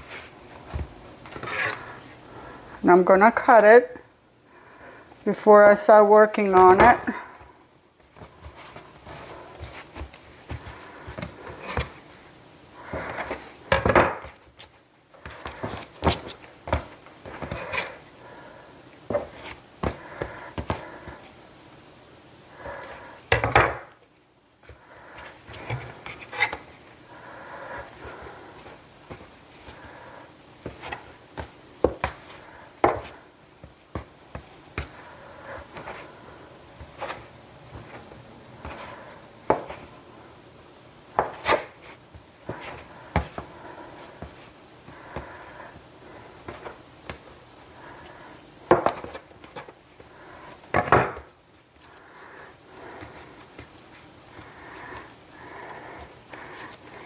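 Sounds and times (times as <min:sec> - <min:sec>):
dough rubbing and handling: 0:00.0 - 0:23.4, 0:24.6 - 0:40.2, 0:41.0 - 0:57.0.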